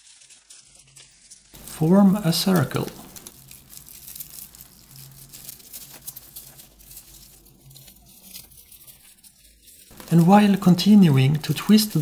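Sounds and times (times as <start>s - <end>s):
dry fibres rustling and crackling: 0.0s - 12.0s.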